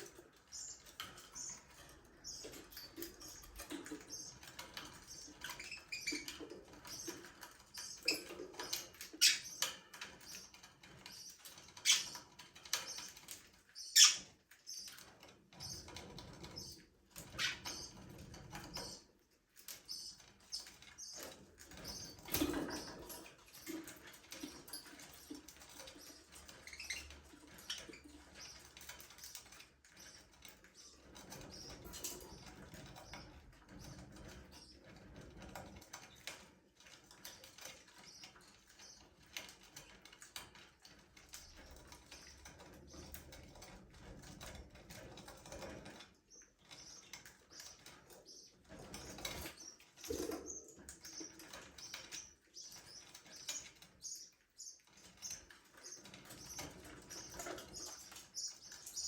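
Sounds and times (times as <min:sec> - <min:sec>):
small clicks and scratches: 0:00.0 - 0:59.0.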